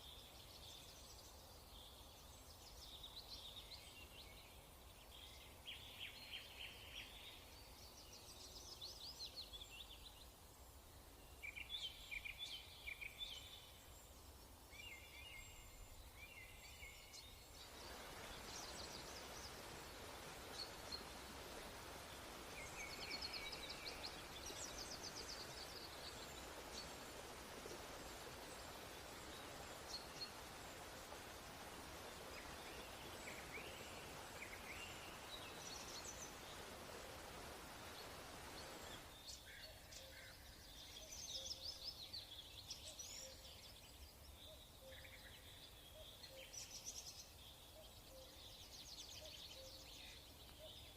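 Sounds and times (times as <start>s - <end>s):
small birds chirping: 0.0s - 50.9s
steady hiss: 0.0s - 50.9s.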